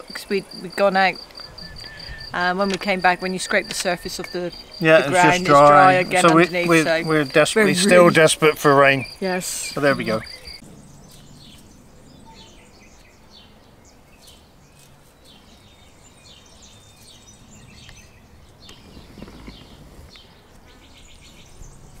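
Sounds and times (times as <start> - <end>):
insects: 0.0 - 22.0
small birds chirping: 0.0 - 22.0.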